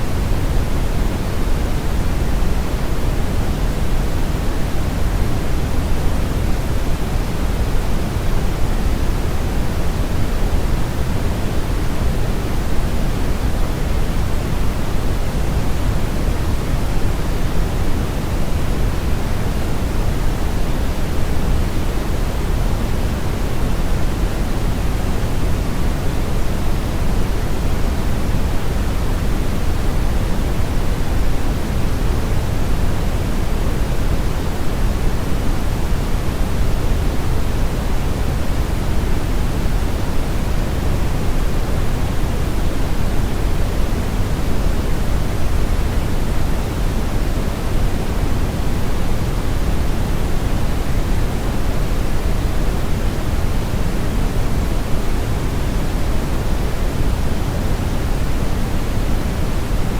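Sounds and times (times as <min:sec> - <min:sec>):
steady brown and white noise: 0:00.0 - 0:59.9.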